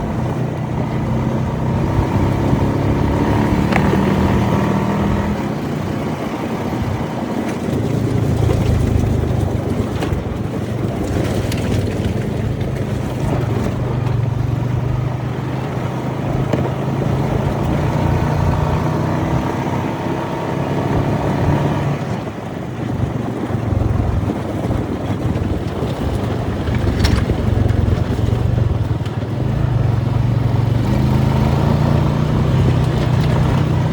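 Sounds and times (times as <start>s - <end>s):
off-road vehicle engine running: 0.0s - 33.9s.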